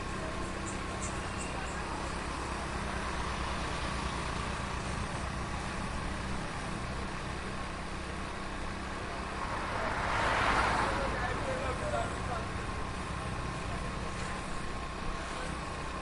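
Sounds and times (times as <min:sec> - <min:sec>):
heavy street traffic rumble: 0:00.0 - 0:16.0.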